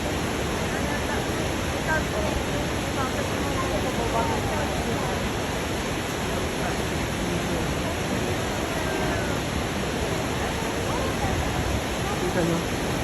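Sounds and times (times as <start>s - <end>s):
faint voices: 0.0s - 13.0s
waterfall rushing: 0.0s - 13.0s.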